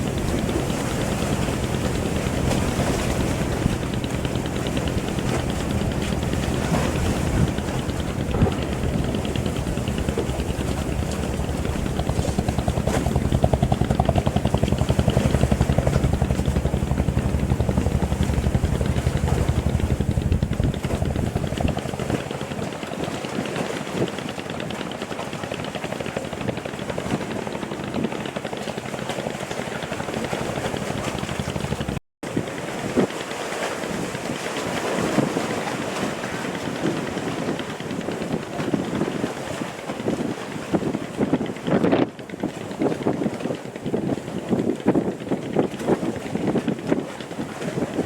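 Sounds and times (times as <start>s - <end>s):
water noise: 0.0s - 41.4s
boat engine chugging: 0.0s - 48.0s
wind: 0.0s - 48.0s.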